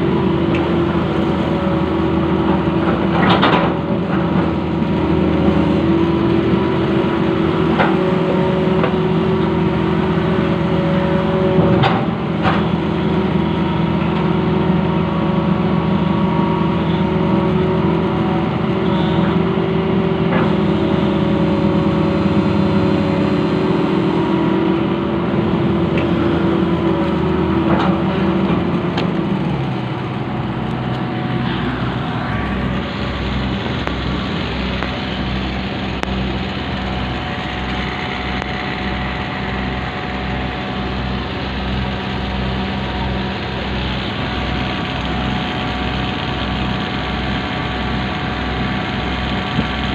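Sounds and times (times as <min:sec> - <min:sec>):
excavator diesel engine: 0:00.0 - 0:49.9.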